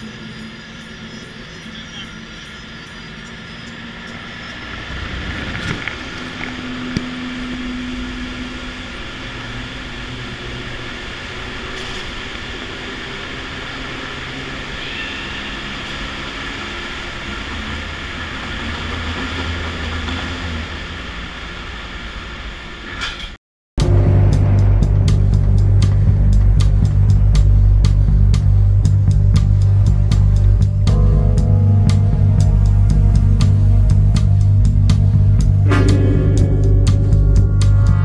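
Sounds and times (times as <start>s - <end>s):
car engine: 0.0s - 23.0s, 23.8s - 38.0s.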